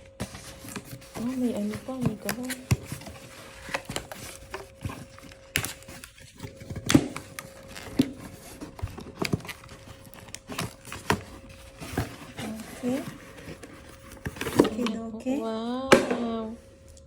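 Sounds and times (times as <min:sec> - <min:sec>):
packaging being pulled open: 0:00.5 - 0:14.8.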